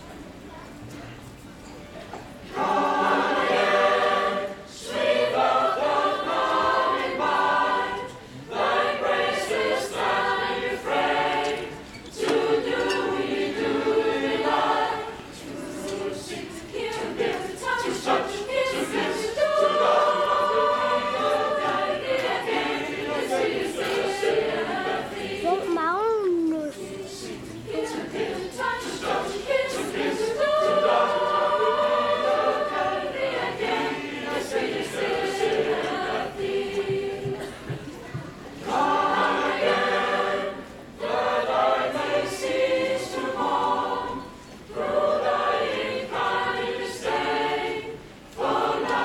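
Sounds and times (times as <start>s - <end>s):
youth choir singing: 2.4s - 49.0s.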